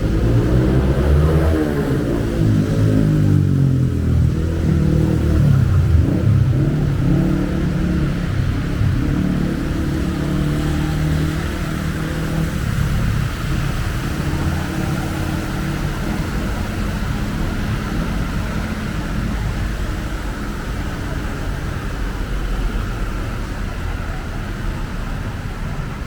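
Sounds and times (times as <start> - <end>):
steady traffic noise: 0.0 - 26.0
vehicle engine running close by: 0.0 - 26.0.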